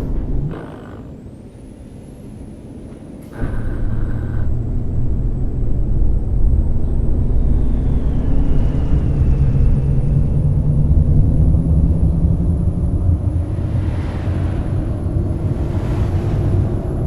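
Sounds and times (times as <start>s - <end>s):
coach engine running loudly: 3.3s - 17.0s.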